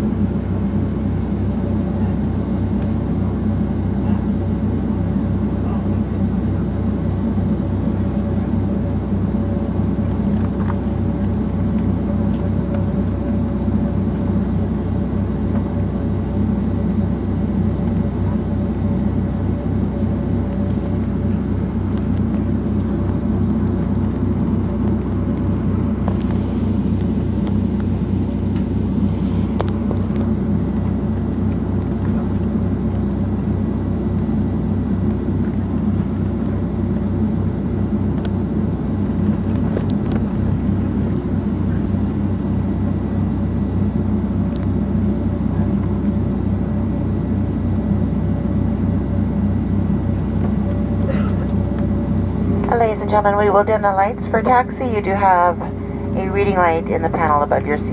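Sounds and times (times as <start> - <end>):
aircraft cabin drone: 0.0 - 57.9.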